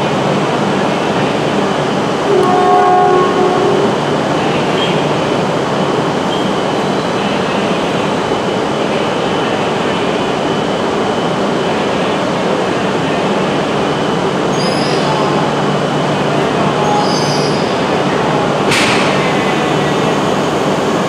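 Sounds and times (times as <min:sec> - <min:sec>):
train running at low speed: 0:00.0 - 0:21.0.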